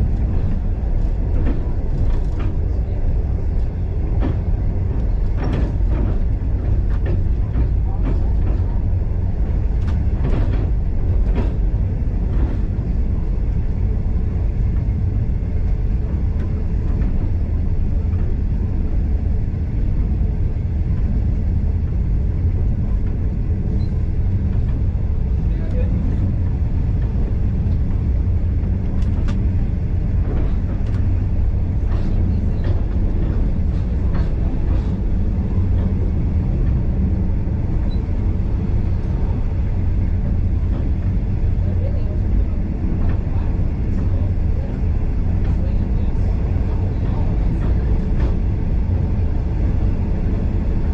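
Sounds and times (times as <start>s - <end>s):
train carriage rumbling on track: 0.0s - 50.9s.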